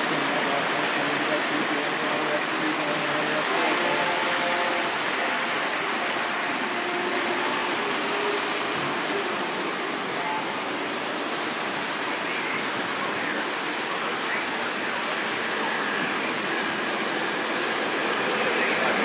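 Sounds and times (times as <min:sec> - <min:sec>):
model trains rolling on rails: 0:00.0 - 0:19.0.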